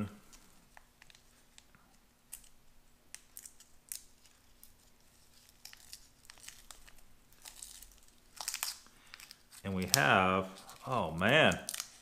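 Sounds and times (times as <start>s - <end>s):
candy wrapper crinkling: 0.2s - 12.0s.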